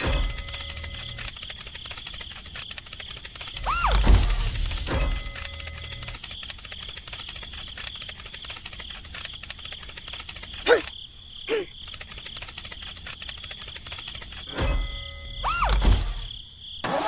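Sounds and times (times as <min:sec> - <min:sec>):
swooping squeaks: 0:00.0 - 0:10.9, 0:11.6 - 0:17.0
cricket-like chirping trill: 0:00.0 - 0:17.0.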